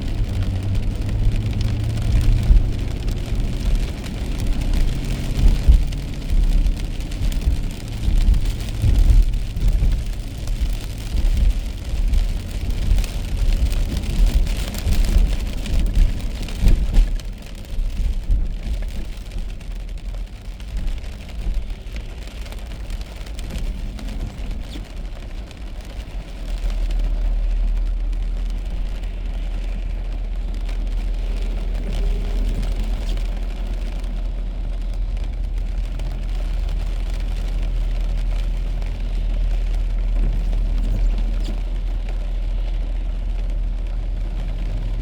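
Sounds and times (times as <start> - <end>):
rain pattering on car: 0.0 - 45.0
road and engine rumble: 0.0 - 45.0.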